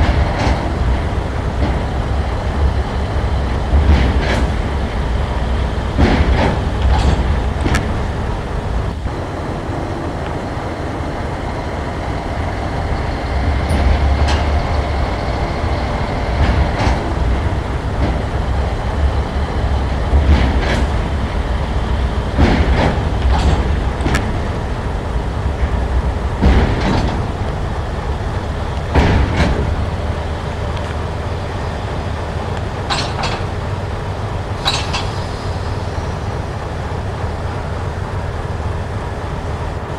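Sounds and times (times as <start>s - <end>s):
model locomotive rumble: 0.0s - 39.9s
wheels clicking over rail joints: 0.0s - 39.9s.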